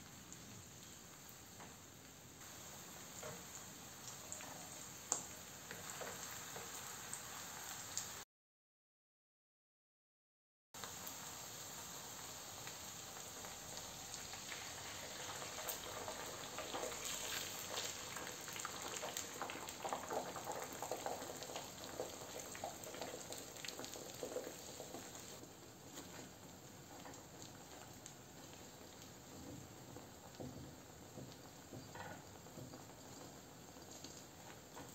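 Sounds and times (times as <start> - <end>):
sausage sizzling in hot oil: 0.0 - 8.2, 10.8 - 34.9.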